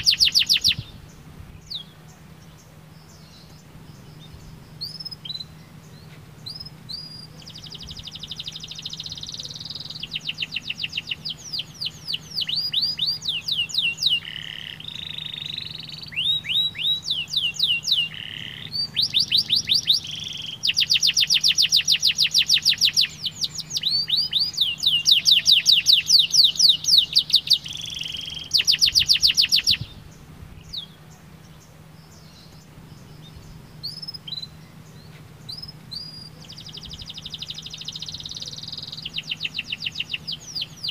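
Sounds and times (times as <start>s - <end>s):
canary singing fast trills: 0.0s - 40.9s
soft bird chirps: 0.0s - 40.9s.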